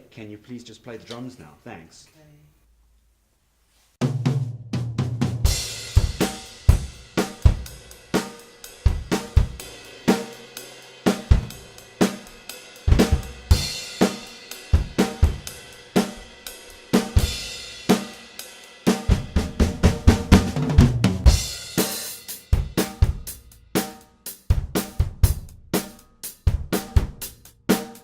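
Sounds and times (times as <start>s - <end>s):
drum kit playing a groove: 4.0s - 28.0s.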